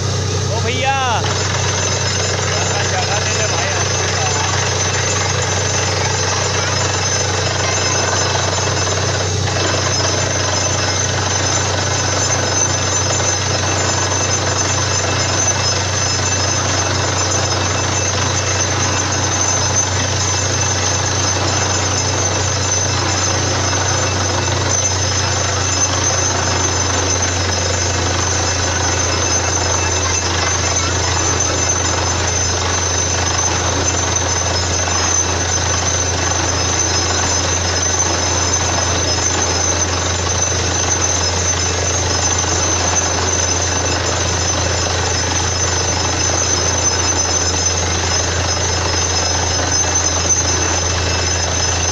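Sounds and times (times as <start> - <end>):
drilling rig running: 0.0 - 51.9.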